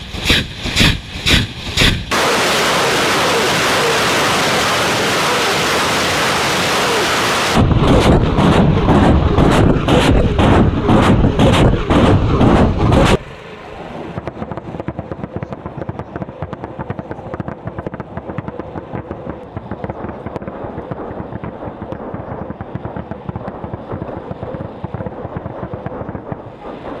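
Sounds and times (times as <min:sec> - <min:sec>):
crackling rumble: 0:02.1 - 0:27.0
rocket launches: 0:02.1 - 0:27.0.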